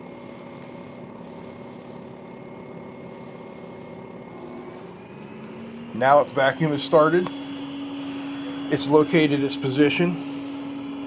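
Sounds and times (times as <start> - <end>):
robot vacuum humming: 0.1 - 11.0.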